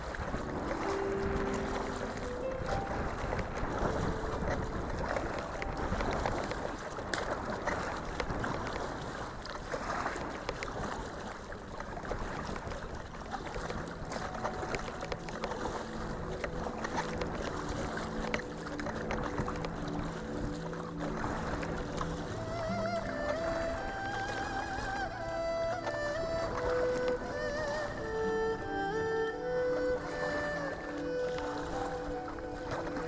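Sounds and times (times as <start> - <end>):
small splashes and knocks: 0.0 - 27.8
wind and water rushing: 0.0 - 33.0
faint background music: 0.1 - 6.8, 13.0 - 33.0.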